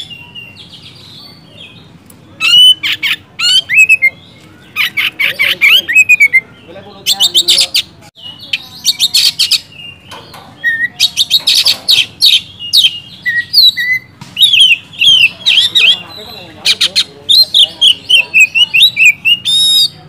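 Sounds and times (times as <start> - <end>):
bird singing whistled notes: 0.0 - 20.0.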